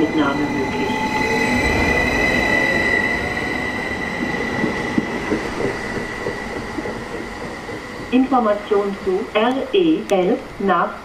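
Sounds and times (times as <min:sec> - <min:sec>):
train high whine: 0:00.0 - 0:11.0
train rolling rumble: 0:00.0 - 0:11.0.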